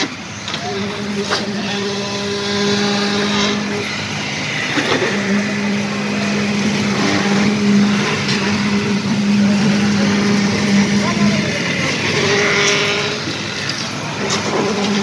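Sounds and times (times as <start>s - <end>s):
construction machinery humming: 0.0s - 15.0s.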